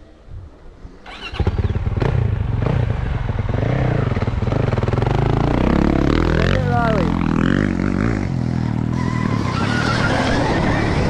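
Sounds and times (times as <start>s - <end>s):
dirt bike engine running: 1.4s - 10.6s.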